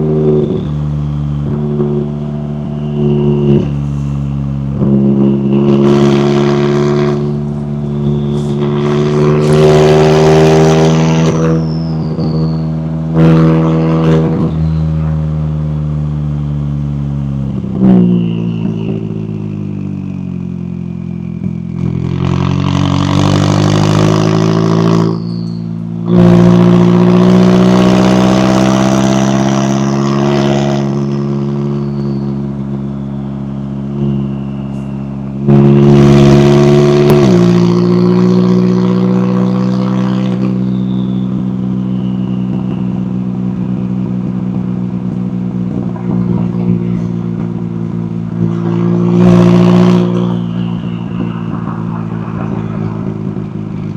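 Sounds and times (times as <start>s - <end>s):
car exhaust under hard throttle: 0.0s - 53.9s.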